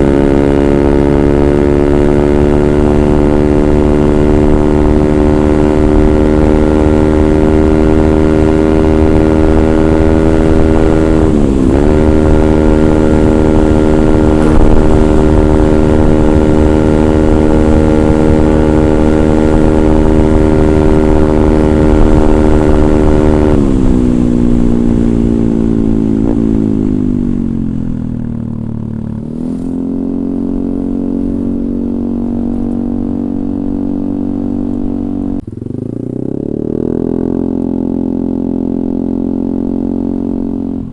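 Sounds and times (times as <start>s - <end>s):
scooter engine revving: 0.0s - 27.8s, 28.4s - 40.9s.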